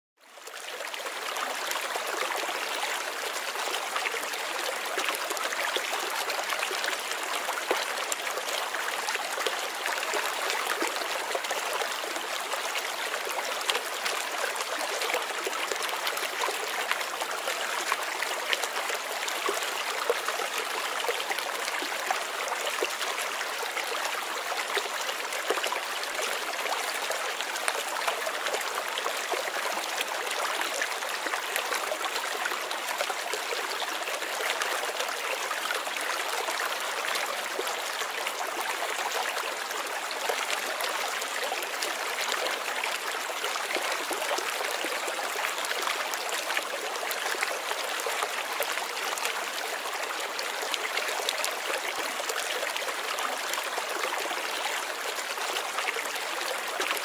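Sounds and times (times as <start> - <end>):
stream water babbling: 0.2 - 57.0.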